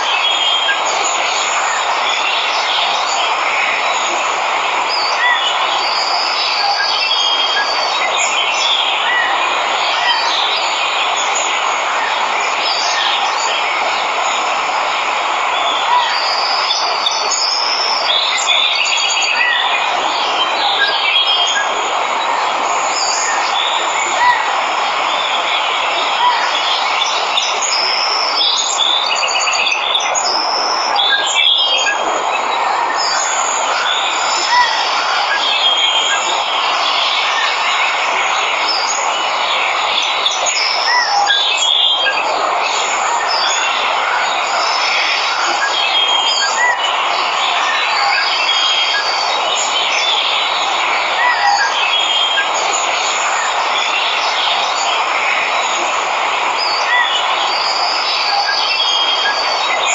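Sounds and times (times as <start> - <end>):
insects calling: 0.0 - 59.9
waterfall rushing: 0.0 - 59.9.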